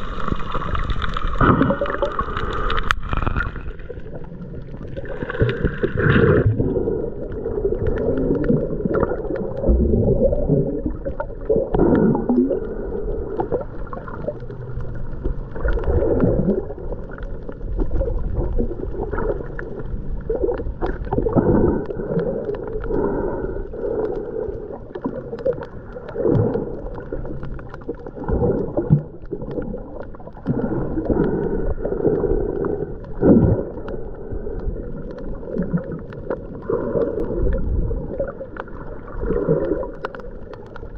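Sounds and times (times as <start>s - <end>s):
water swoosh: 0.0s - 23.0s, 24.6s - 40.9s
muffled underwater sloshing: 0.0s - 40.9s.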